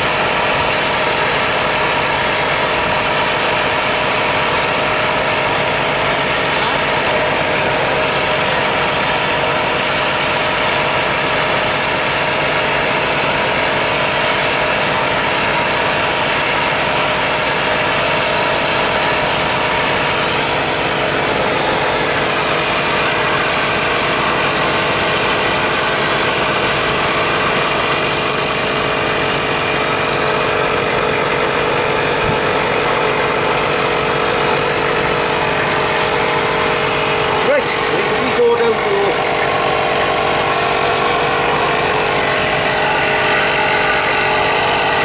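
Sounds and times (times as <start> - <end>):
machine droning: 0.0 - 45.0.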